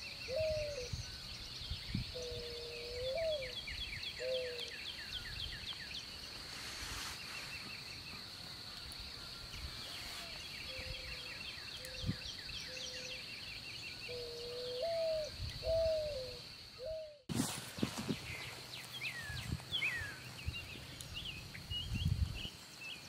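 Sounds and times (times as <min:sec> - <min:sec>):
insect drone: 0:00.0 - 0:23.0
rustle: 0:00.0 - 0:23.0.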